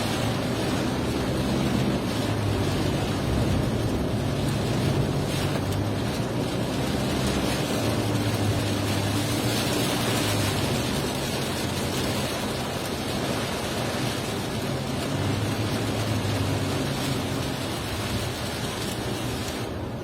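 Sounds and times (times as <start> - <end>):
car engine hum: 0.0 - 20.0
rain hiss: 0.0 - 20.0
tyres on wet road: 0.0 - 20.0.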